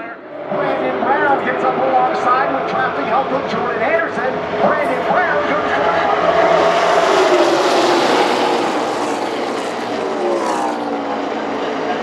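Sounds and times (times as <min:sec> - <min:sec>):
race cars roaring past: 0:00.0 - 0:12.0.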